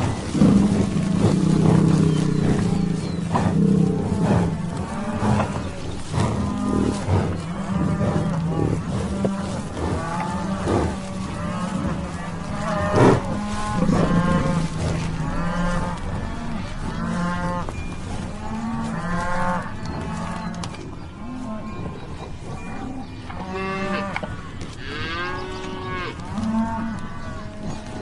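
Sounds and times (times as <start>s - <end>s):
cattle mooing: 0.0s - 22.0s, 22.6s - 28.0s.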